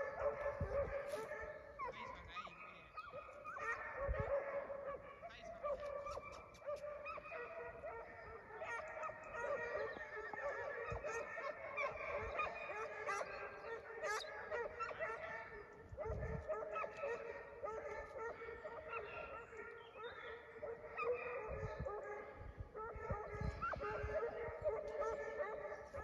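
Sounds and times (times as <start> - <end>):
hunting dogs yelping and baying: 0.0 - 26.0.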